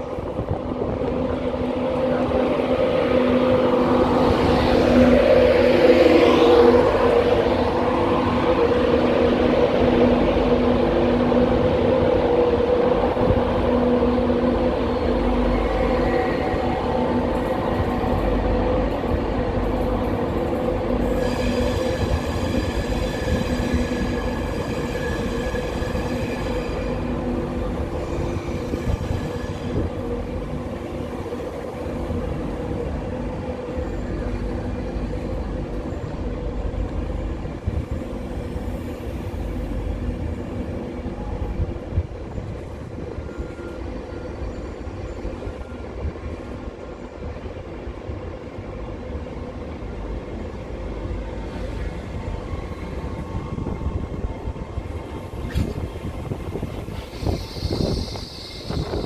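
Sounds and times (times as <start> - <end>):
train humming: 0.0 - 59.0.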